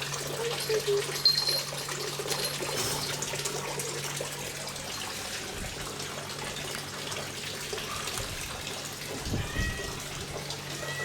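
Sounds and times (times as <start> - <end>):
water feature splashing: 0.0 - 11.0.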